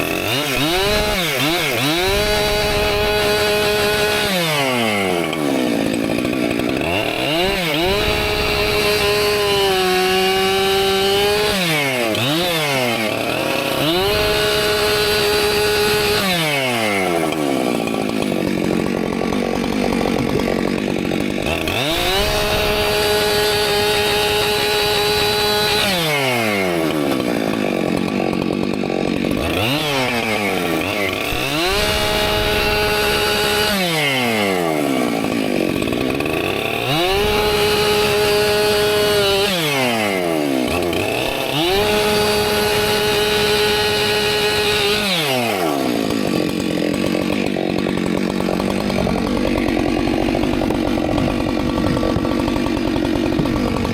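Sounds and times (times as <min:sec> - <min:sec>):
chain cutting through wood: 0:00.0 - 0:53.9
chainsaw engine revving: 0:00.0 - 0:53.9.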